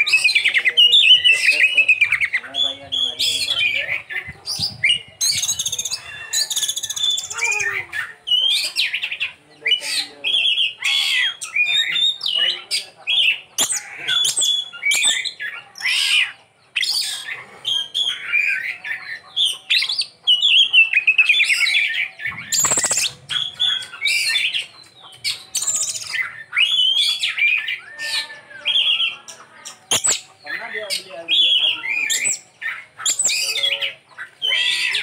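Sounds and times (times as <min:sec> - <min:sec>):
songbird singing varied phrases: 0:00.0 - 0:35.0.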